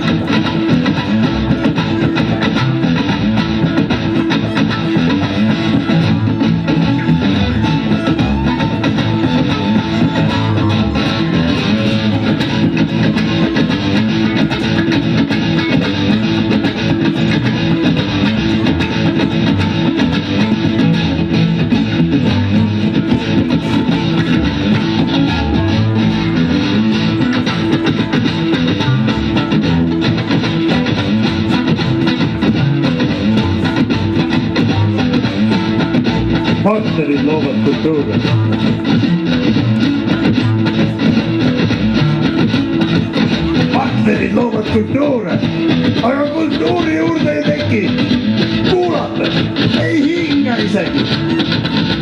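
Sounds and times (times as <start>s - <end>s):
electric guitar: 0.0s - 52.0s
violin: 0.0s - 52.0s.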